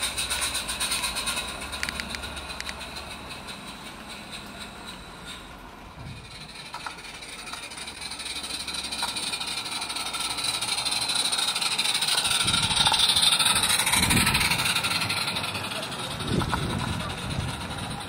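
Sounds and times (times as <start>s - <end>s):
model steam locomotive hissing: 0.0s - 18.0s
wagons rumbling on track: 0.0s - 18.0s.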